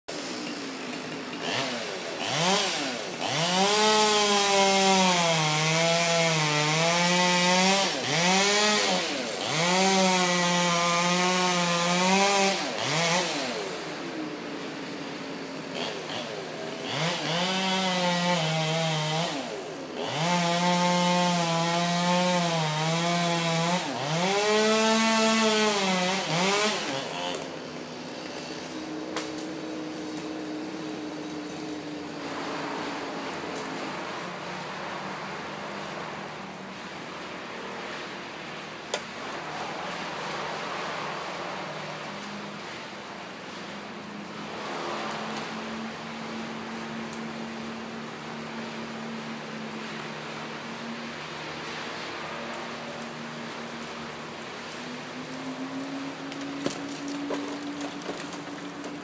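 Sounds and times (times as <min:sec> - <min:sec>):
chainsaw cutting wood: 0:00.1 - 0:14.3, 0:15.1 - 0:37.7, 0:38.9 - 0:50.9, 0:52.4 - 0:59.0.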